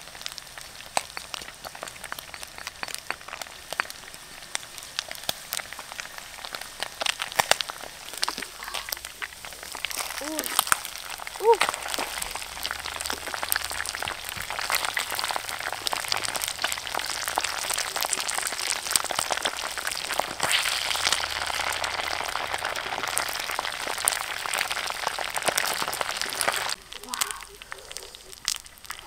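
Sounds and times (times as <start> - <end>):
oil sizzling and crackling: 0.0 - 29.0.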